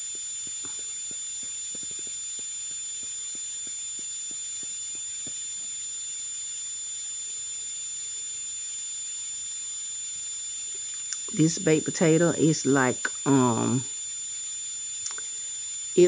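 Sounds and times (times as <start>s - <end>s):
steady high-pitched two-tone whine: 0.0s - 16.0s.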